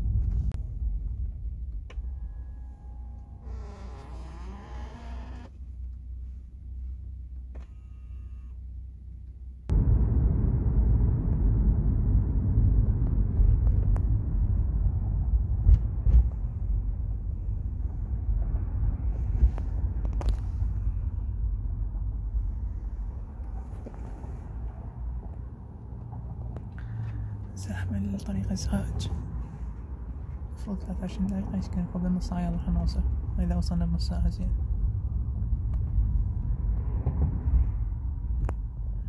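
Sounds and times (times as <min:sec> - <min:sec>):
road and traffic rumble: 0:00.0 - 0:39.0.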